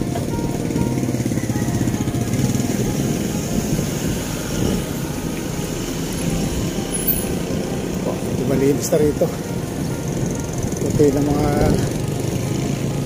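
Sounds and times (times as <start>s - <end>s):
small motorcycle engine running: 0.0s - 13.0s
street traffic: 0.0s - 13.0s.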